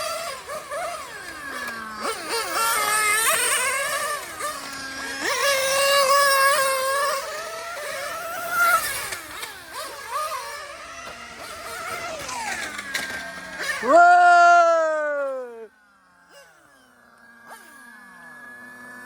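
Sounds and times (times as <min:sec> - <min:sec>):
rc car engine revving high: 0:00.0 - 0:19.0.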